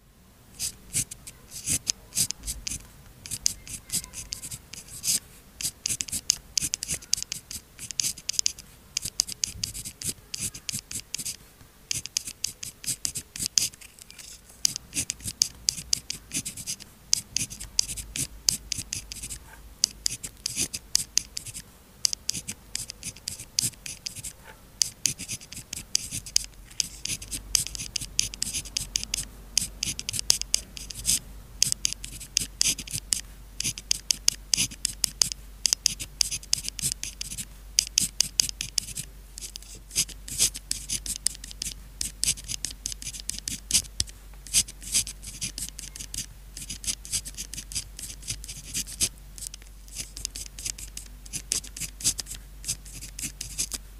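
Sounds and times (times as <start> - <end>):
pen writing on paper: 0.6 - 53.8.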